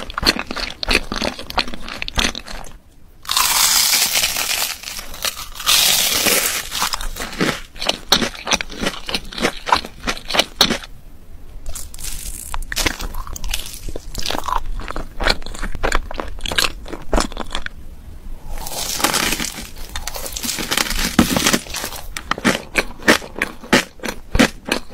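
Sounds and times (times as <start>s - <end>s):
crunching and chewing food: 0.0s - 10.9s, 11.7s - 17.8s, 18.4s - 24.9s.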